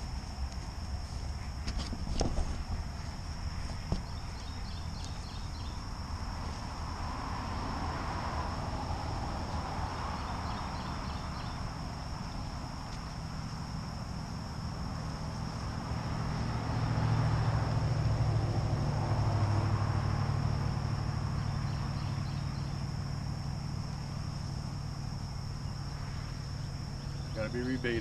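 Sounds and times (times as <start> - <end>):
crickets chirping: 0.0 - 28.0
vehicle passing: 2.6 - 28.0.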